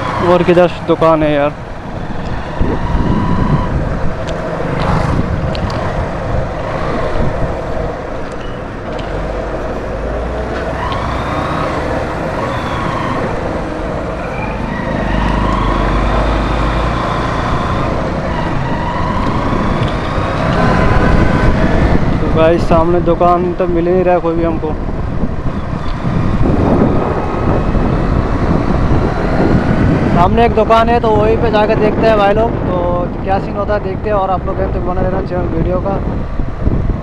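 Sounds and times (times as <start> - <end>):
traffic rumble: 0.0 - 37.0.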